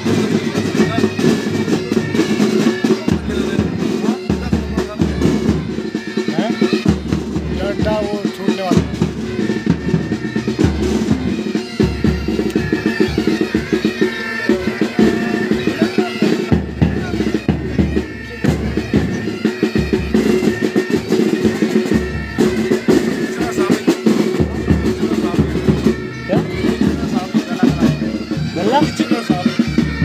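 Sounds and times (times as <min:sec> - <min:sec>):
bagpipes playing melody: 0:00.0 - 0:30.0
side drums beating: 0:00.0 - 0:30.0.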